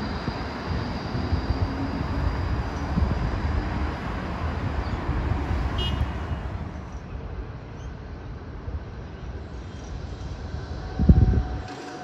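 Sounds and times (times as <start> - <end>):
tram and traffic rumble: 0.0 - 12.0.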